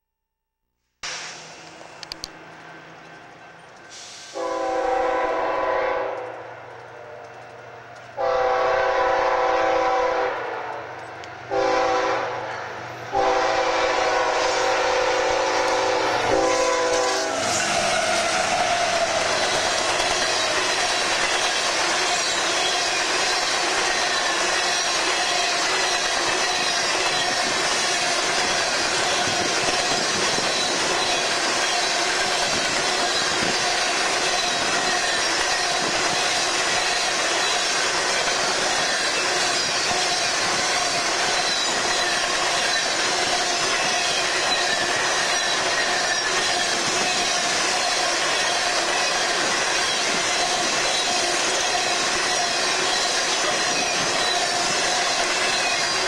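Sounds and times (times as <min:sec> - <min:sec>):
freight train wheels on rails: 0:01.0 - 0:56.0.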